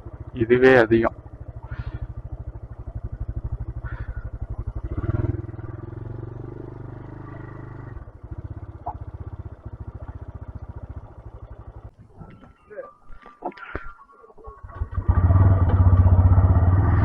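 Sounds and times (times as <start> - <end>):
motorcycle engine puttering: 0.0 - 16.9.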